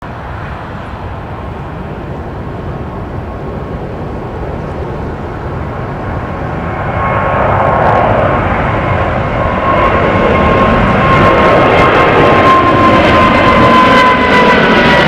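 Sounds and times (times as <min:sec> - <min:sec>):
faint jet engine whine: 0:00.0 - 0:15.0
jet engines roaring: 0:00.0 - 0:15.0.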